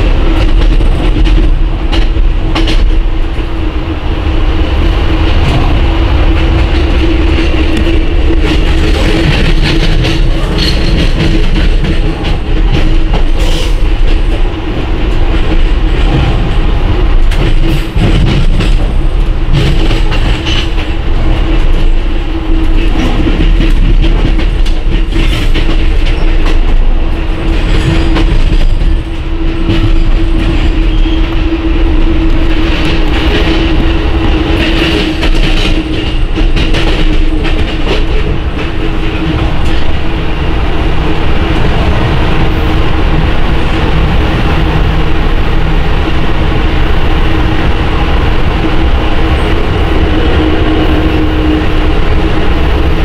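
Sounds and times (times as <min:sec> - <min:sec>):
freight train passing: 0:00.0 - 0:53.0
train rumble: 0:00.0 - 0:53.0.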